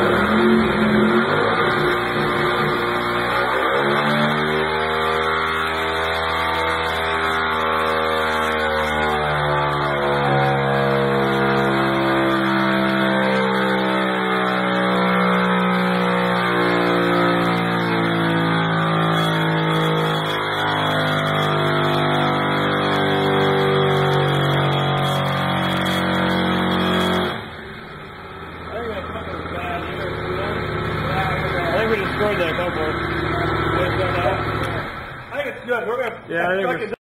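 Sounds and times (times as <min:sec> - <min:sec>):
engine running at high speed: 0:00.0 - 0:35.5.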